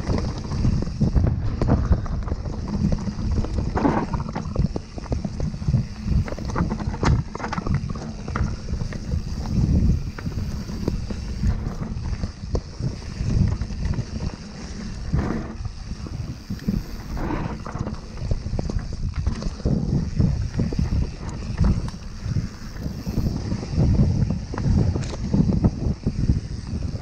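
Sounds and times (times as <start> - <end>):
bike clicks and rattles: 0.0 - 27.0
tyres rumbling over dirt: 0.0 - 27.0
wind buffeting microphone: 0.0 - 27.0.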